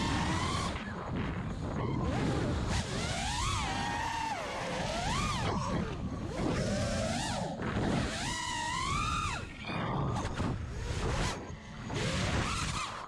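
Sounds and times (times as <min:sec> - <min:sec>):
quadcopter motors whining: 0:00.0 - 0:13.0
wind rush on microphone: 0:00.0 - 0:13.0.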